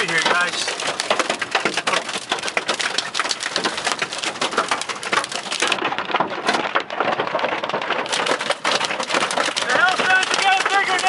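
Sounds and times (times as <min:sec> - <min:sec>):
hail and rain hitting a car: 0:00.0 - 0:11.0.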